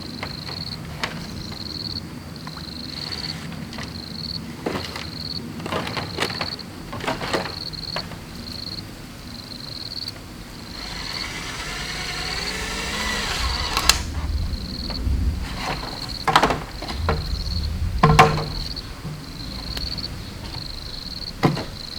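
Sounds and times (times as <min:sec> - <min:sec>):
insect chirping: 0:00.0 - 0:04.5, 0:06.2 - 0:21.9.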